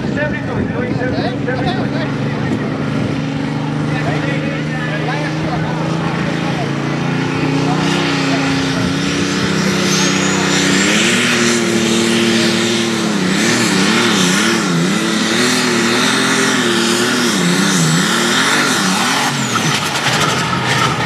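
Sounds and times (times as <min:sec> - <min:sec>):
tractor engine at full throttle: 0:00.0 - 0:21.0.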